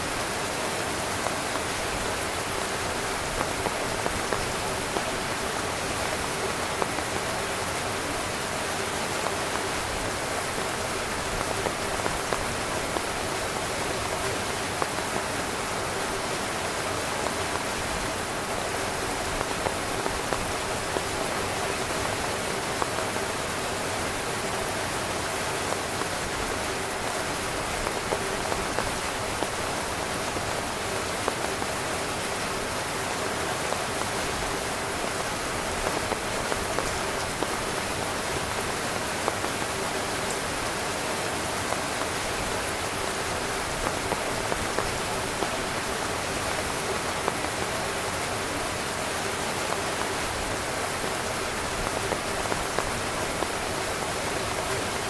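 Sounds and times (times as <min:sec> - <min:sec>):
heavy rain drumming on a tent: 0:00.0 - 0:55.0.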